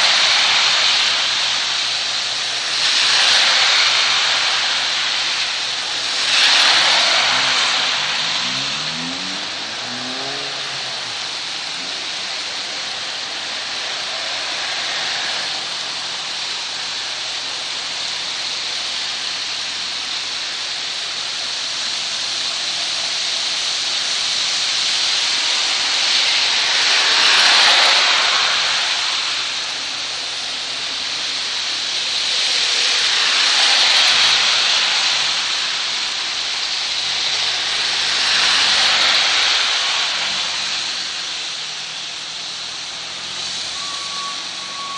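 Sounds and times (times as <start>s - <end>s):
cars passing on wet road: 0.0s - 44.9s
heavy rain on street: 0.0s - 44.9s.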